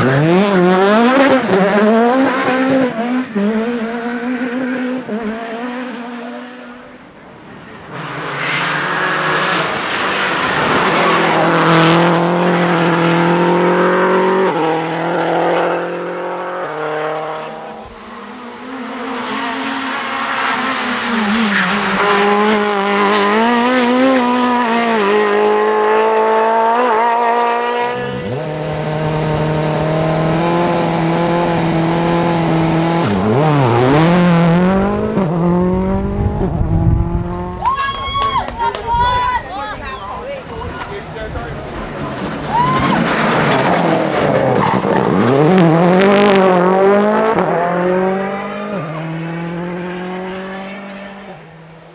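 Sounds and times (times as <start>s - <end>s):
racing car engine revving: 0.0s - 37.6s, 41.0s - 51.9s.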